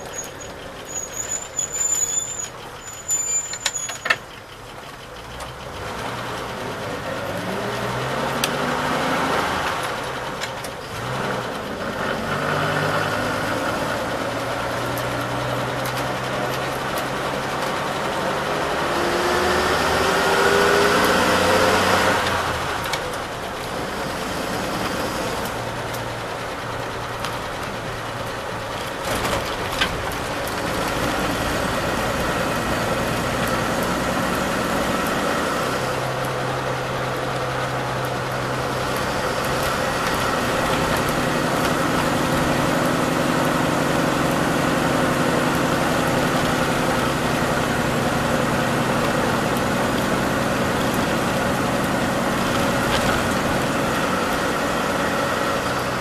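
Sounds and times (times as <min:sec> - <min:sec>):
coach engine running: 0:00.0 - 0:56.0.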